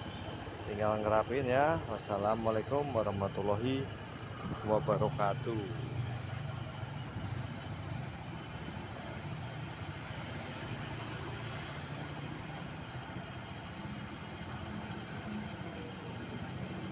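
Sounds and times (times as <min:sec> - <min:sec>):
scooter engine idling: 0:00.0 - 0:16.9.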